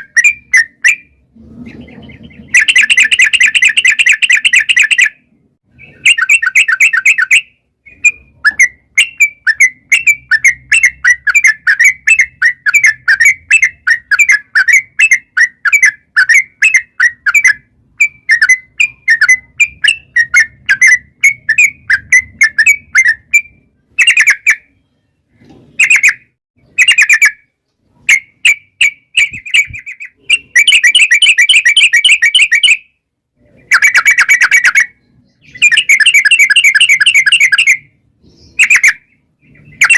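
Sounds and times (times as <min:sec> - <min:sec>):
bird chattering rapid sharp notes: 0:00.0 - 0:05.2, 0:05.8 - 0:24.7, 0:28.1 - 0:32.8, 0:33.6 - 0:37.8.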